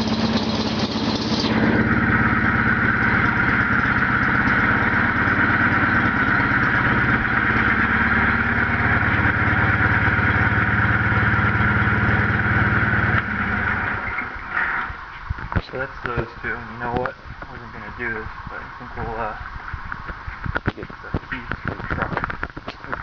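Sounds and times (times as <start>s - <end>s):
garden tractor engine running: 0.0s - 23.0s.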